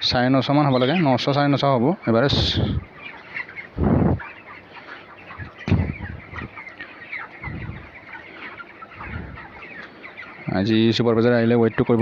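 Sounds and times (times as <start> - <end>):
chickens peeping and clucking: 0.0 - 12.0.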